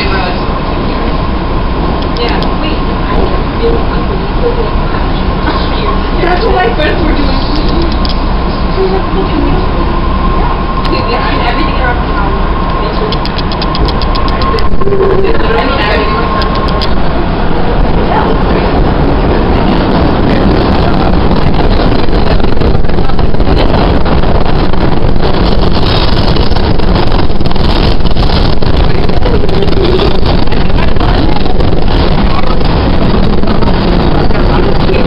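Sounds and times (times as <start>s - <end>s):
subway train wheels on rails: 0.0s - 35.0s.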